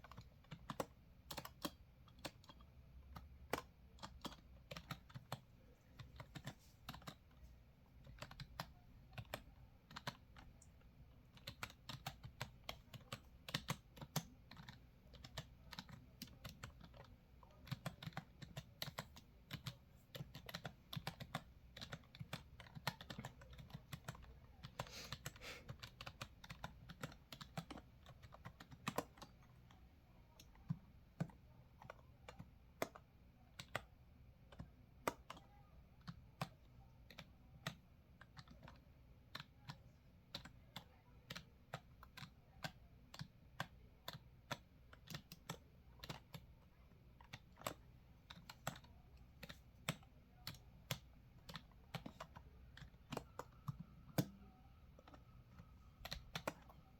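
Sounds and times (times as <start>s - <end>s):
computer keyboard typing: 0.0s - 56.9s.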